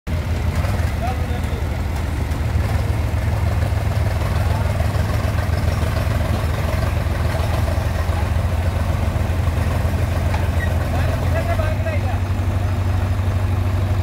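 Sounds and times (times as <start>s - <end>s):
diesel engines under load: 0.1s - 14.0s.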